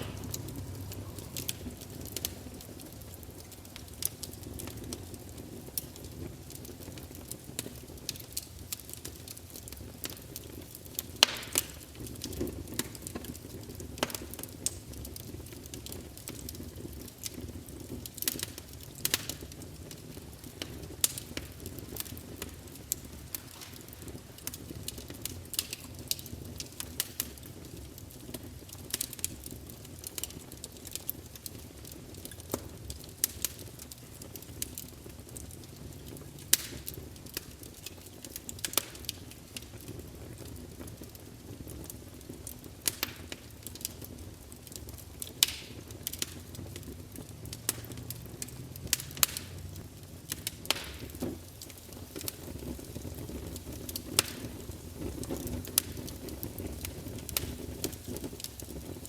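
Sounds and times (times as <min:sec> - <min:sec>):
campfire flames rumbling: 0:00.0 - 0:59.0
fire crackles and pops: 0:00.0 - 0:59.0.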